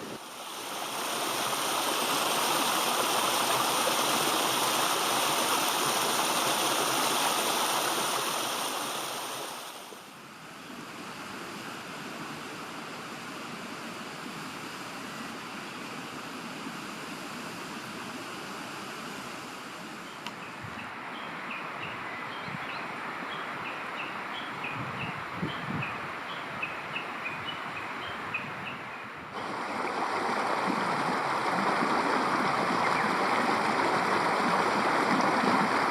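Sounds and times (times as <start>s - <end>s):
running water rushing: 0.0s - 35.9s.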